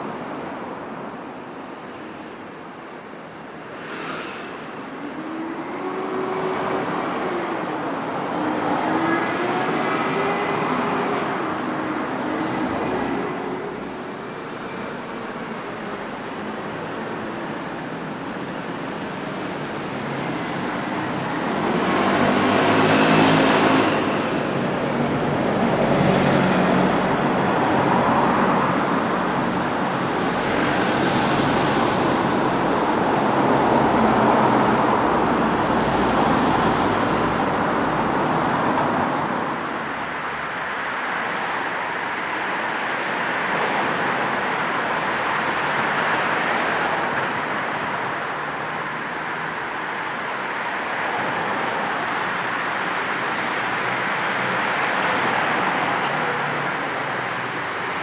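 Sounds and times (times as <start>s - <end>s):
road traffic rush: 0.0s - 58.0s
vehicles passing: 2.1s - 58.0s.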